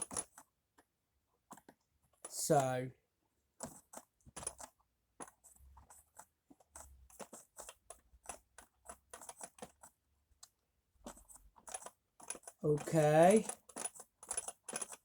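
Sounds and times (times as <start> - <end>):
plastic parts clicking and rattling: 0.0 - 0.9, 3.6 - 15.0.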